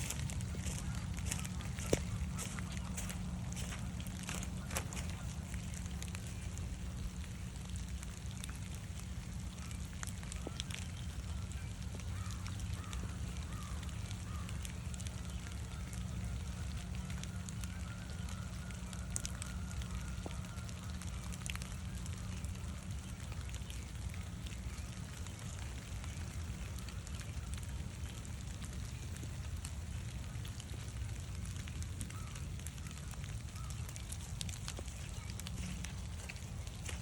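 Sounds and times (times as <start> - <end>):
gentle rain pattering: 0.0 - 37.0.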